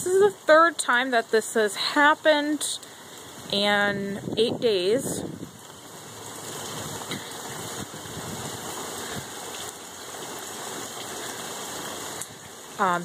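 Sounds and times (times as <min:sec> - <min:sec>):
floodwater running: 0:00.0 - 0:13.0
heavy rain pouring: 0:00.0 - 0:13.0.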